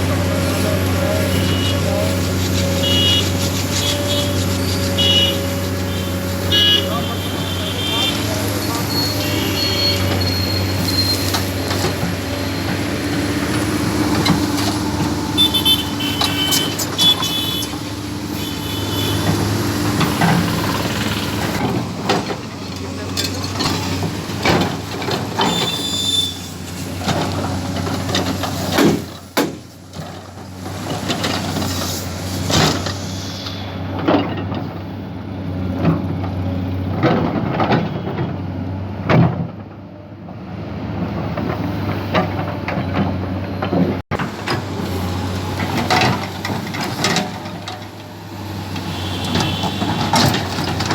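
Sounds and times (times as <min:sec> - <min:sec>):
machinery clanks and knocks: 0:00.0 - 0:33.0, 0:33.9 - 0:34.9, 0:35.6 - 0:50.9
diesel engine drone: 0:00.0 - 0:50.9.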